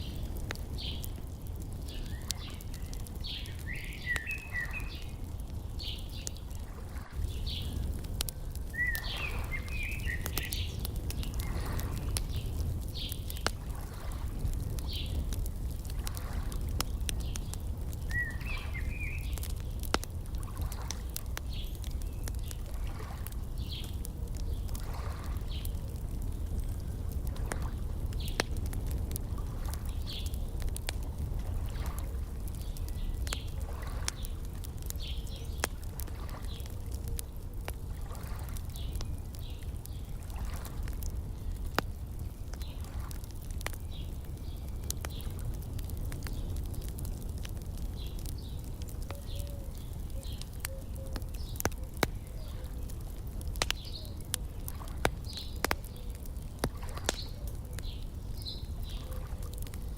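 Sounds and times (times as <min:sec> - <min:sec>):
small birds chirping: 0:00.0 - 0:59.9
wood fire crackling and popping: 0:00.0 - 0:59.9.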